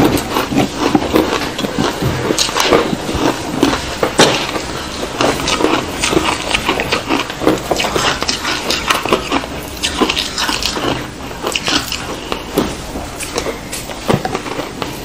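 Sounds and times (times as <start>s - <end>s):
ice crunching being chewed: 0.0s - 15.0s.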